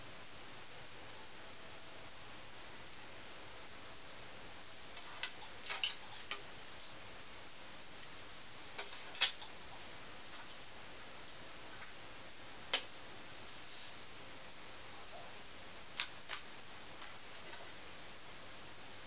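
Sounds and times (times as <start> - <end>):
steady faint hiss: 0.0 - 19.0.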